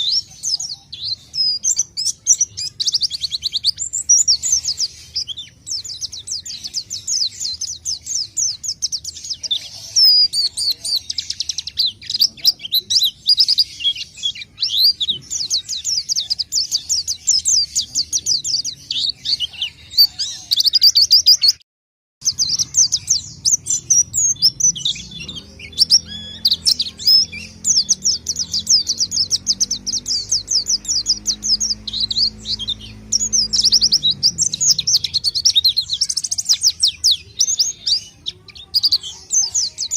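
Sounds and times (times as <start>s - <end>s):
songbird twittering song: 0.0s - 21.6s, 22.2s - 39.9s.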